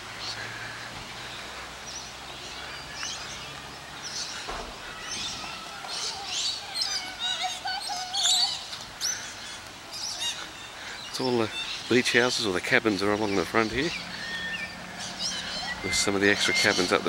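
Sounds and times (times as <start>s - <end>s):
birds chirping and warbling: 0.0s - 17.0s.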